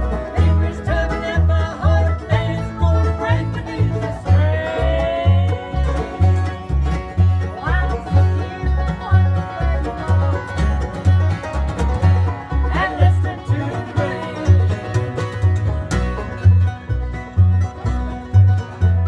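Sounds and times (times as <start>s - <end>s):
bass line: 0.0s - 19.0s
bluegrass band playing: 0.0s - 19.0s.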